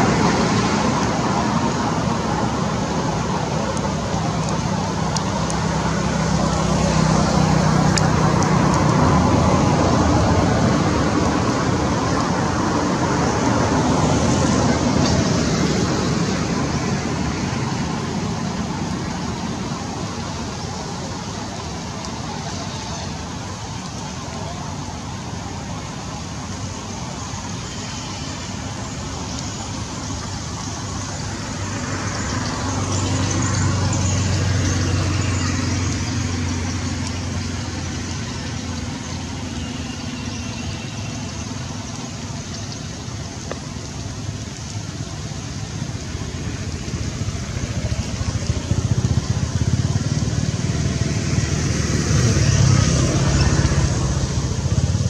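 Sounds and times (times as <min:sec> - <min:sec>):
steady background hiss: 0:00.0 - 0:55.0
vehicle engine hum: 0:00.0 - 0:55.0.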